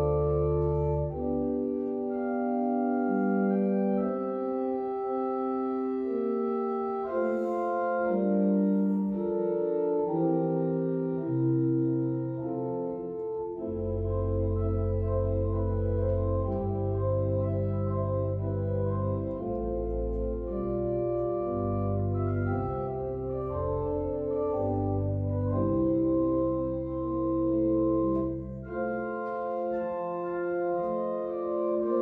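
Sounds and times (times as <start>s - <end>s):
church organ chords: 0.0s - 32.0s
deep organ bass notes: 0.0s - 32.0s.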